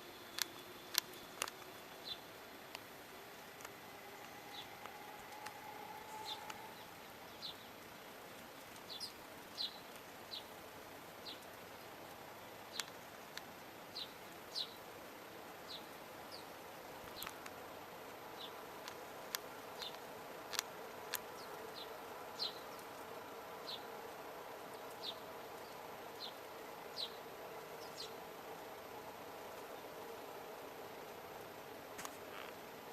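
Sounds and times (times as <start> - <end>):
faint steady drone: 0.0 - 32.9
small birds chirping: 0.0 - 32.9.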